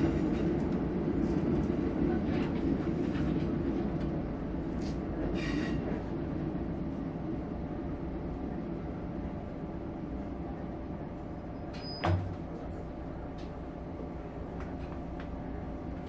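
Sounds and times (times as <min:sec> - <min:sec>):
diesel railcar rumble: 0:00.0 - 0:16.0.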